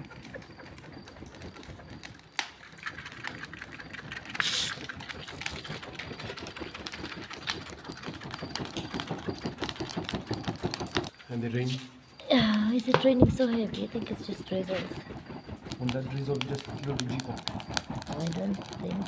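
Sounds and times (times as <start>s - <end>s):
tin lid flapping: 0.0s - 11.2s, 12.4s - 19.0s.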